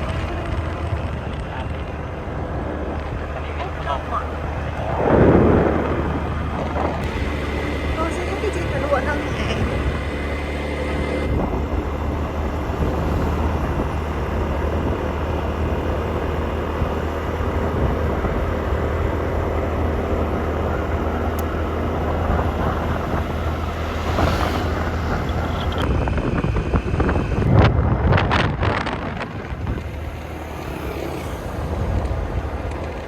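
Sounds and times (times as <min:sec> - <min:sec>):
motorcycle engine running: 0:00.0 - 0:33.0
road noise: 0:00.0 - 0:33.0.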